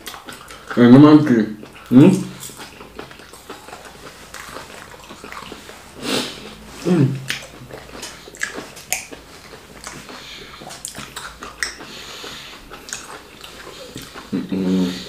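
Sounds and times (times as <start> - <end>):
mouth chewing and smacking: 0.0 - 15.0.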